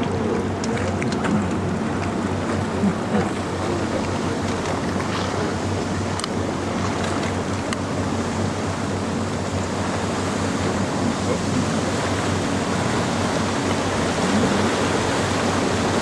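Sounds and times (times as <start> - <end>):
motorboat engine humming: 0.0 - 16.0
water rushing against hull: 0.0 - 16.0
wind: 0.0 - 16.0.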